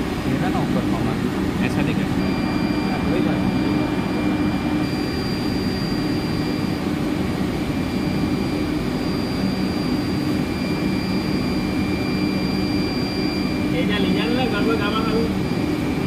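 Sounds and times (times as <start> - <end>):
low hum: 0.0 - 13.7
electrical equipment and fans droning: 0.0 - 16.0
high-pitched whine: 0.0 - 16.0.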